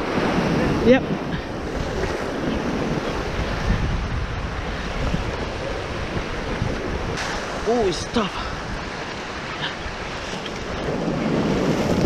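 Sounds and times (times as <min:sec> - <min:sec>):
ocean surf breaking over rocks: 0:00.0 - 0:12.0
wind buffeting microphone: 0:00.0 - 0:12.0.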